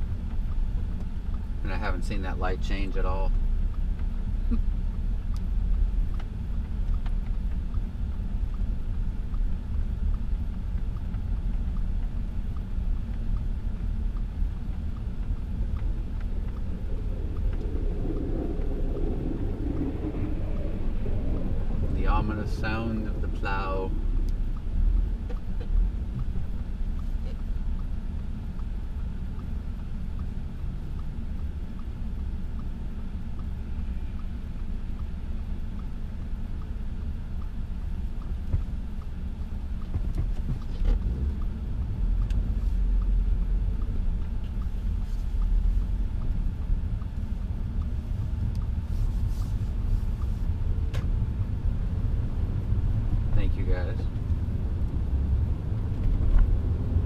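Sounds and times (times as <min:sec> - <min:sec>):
car interior engine rumble: 0:00.0 - 0:57.0.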